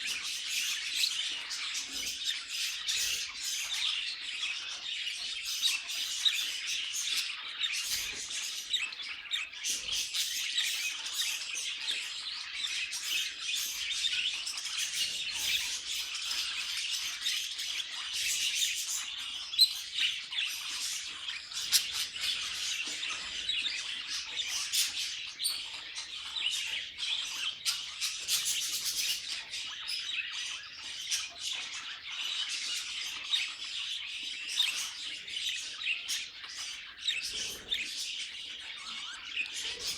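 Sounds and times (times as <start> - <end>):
budgerigars chattering: 0.0 - 39.9
sharp chirps and squawks: 0.0 - 39.9.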